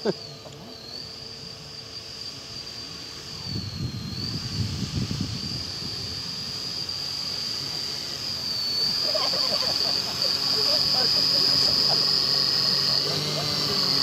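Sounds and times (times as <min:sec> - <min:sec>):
model plane engine whining: 0:00.0 - 0:14.0.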